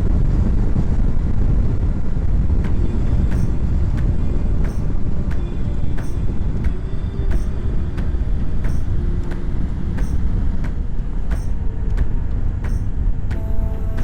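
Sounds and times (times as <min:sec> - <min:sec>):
road rumble: 0:00.0 - 0:14.0
wind on microphone: 0:00.0 - 0:14.0
motorcycle engine running: 0:01.8 - 0:14.0.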